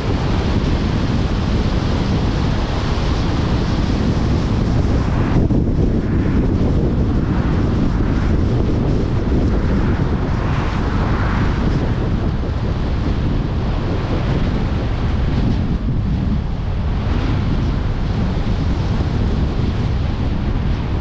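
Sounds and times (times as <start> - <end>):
tyre and road noise: 0.0 - 21.0
wind buffeting microphone: 0.0 - 21.0.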